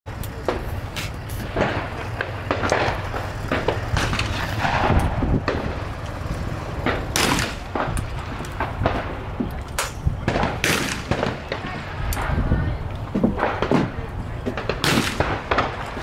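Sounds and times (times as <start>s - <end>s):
low rumble: 0.1s - 16.0s
gunshots: 0.4s - 12.5s, 13.3s - 16.0s.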